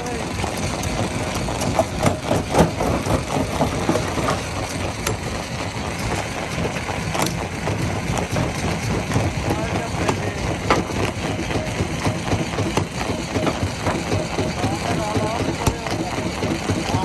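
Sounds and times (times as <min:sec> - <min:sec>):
diesel machinery rumbling: 0:00.0 - 0:17.0.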